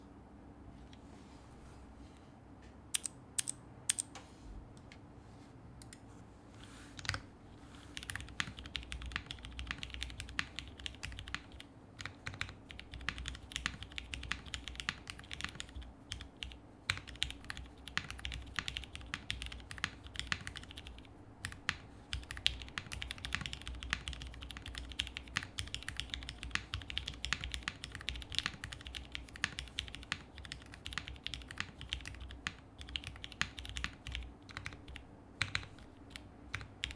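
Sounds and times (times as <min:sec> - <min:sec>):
mechanical keyboard typing: 0:02.9 - 0:04.1, 0:07.0 - 0:07.2, 0:08.0 - 0:36.9.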